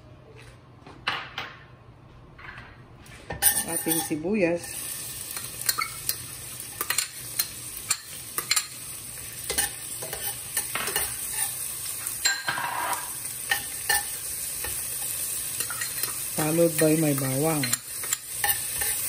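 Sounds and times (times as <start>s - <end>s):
onions sizzling in oil: 3.4s - 19.0s.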